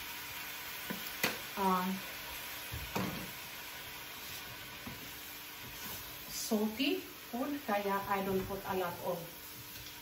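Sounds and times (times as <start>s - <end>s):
chicken sizzling in a pot: 0.0s - 10.0s.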